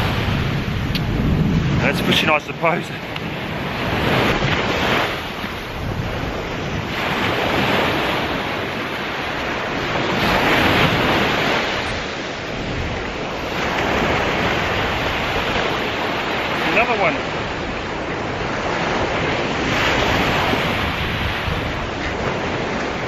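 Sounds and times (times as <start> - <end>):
surf breaking on a beach: 0.0 - 23.0
wind buffeting the microphone: 0.0 - 23.0.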